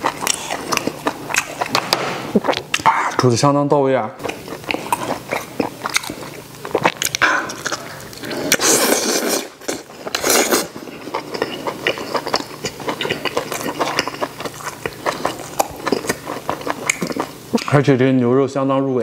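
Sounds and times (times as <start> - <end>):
chewing meat: 0.0 - 3.4, 4.2 - 17.7.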